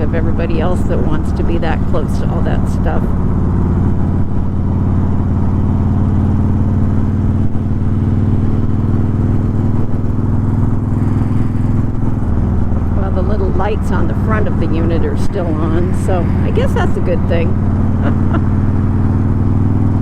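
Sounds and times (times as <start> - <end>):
motorcycle engine cruising: 0.0 - 20.0
road noise: 0.0 - 20.0.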